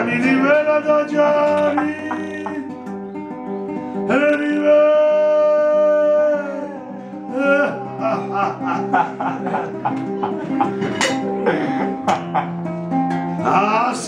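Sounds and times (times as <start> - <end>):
man singing: 0.0 - 2.9, 3.9 - 12.6, 13.4 - 14.0
classical guitar chords: 0.0 - 14.0.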